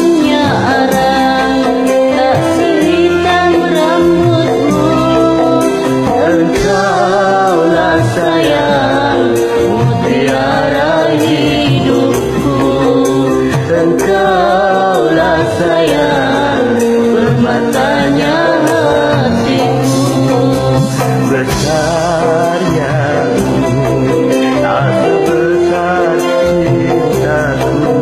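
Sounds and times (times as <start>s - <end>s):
backing track with drum beat: 0.0s - 28.0s
man and woman singing duet: 0.0s - 28.0s.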